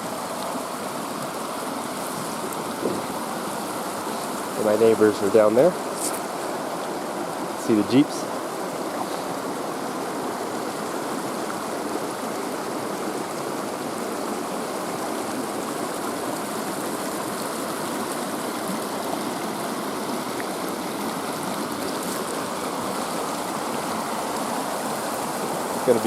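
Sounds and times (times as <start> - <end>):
stream flowing water: 0.0 - 26.0.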